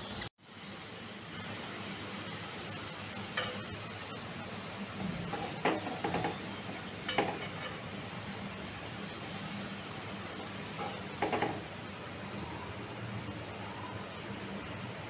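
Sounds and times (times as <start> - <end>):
frying hiss in oil: 0.0 - 15.0.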